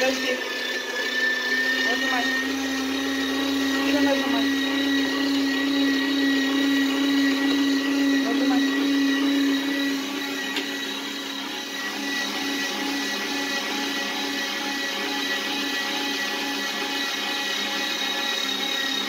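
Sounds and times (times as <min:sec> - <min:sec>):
meat grinder motor hum: 0:00.0 - 0:19.0.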